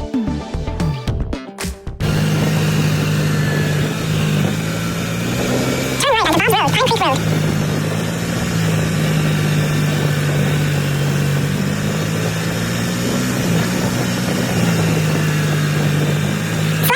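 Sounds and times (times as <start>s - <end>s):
mini bike engine running: 2.0s - 16.9s.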